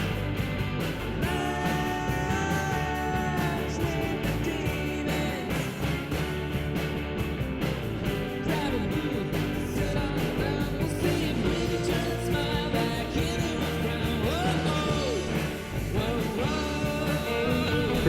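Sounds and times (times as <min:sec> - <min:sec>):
rock music with guitar and singing: 0:00.0 - 0:18.0.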